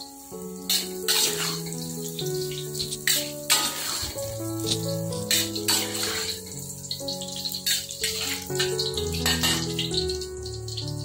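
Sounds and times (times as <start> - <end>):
background music with held notes: 0.0 - 11.0
hot oil dripping and hissing: 0.0 - 11.0.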